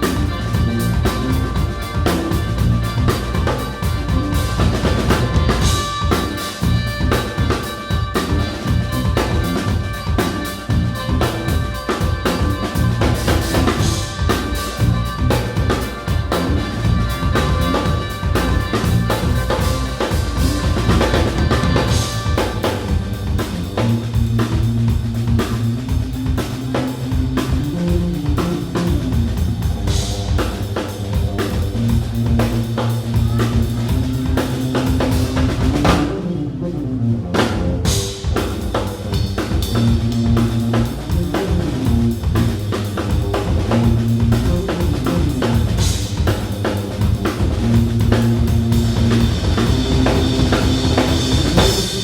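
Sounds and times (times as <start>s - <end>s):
cymbals: 0.0s - 36.2s, 37.8s - 52.0s
drum kit steady beat: 0.0s - 36.3s, 37.4s - 52.0s
live band playing instrumental: 0.0s - 52.0s
repeating bass line: 0.0s - 52.0s.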